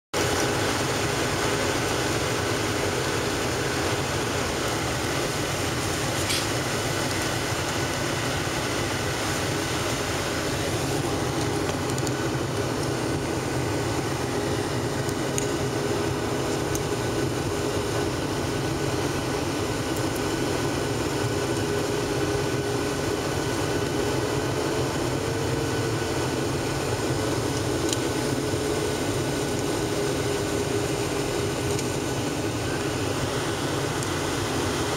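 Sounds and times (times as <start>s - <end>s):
jet cabin engine roar: 0.2s - 34.9s.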